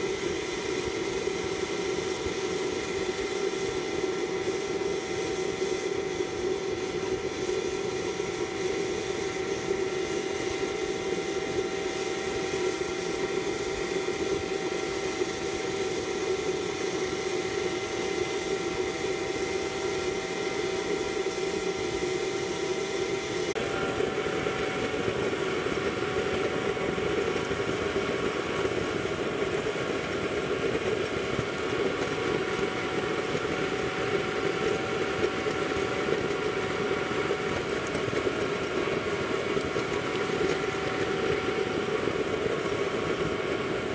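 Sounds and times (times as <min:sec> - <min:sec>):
constant blower whine: 0:00.0 - 0:43.9
stove burner roar: 0:00.0 - 0:43.9.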